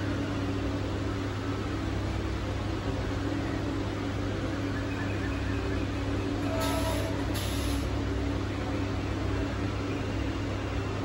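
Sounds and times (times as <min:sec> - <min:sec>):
train electrical hum: 0:00.0 - 0:11.0.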